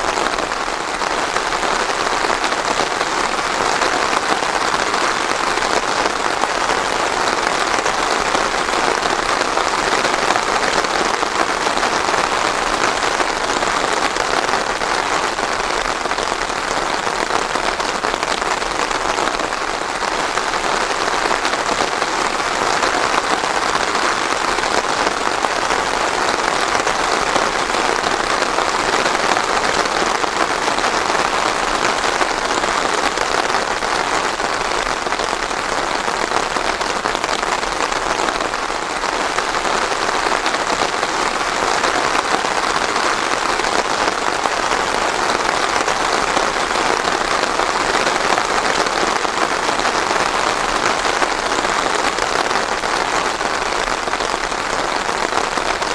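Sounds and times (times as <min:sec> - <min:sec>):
rain pattering on a surface: 0:00.0 - 0:55.9.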